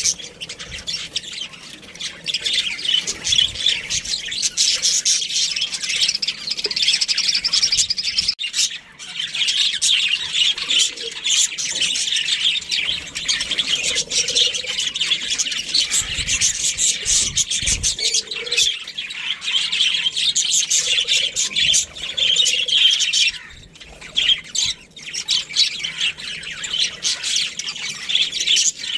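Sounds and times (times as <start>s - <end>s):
budgerigars chirping: 0.0s - 28.9s.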